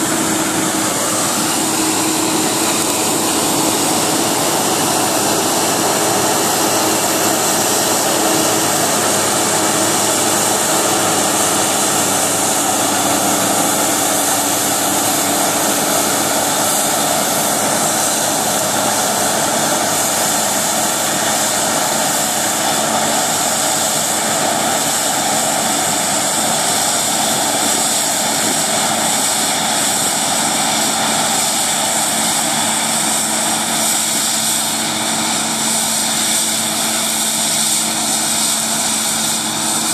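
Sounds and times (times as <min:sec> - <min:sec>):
combine harvester running: 0:00.0 - 0:39.9
tractor running: 0:00.0 - 0:39.9.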